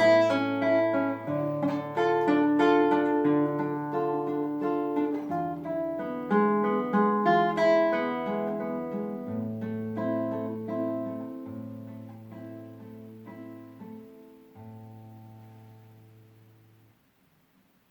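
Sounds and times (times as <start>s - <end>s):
solo classical guitar playing: 0.0s - 17.9s.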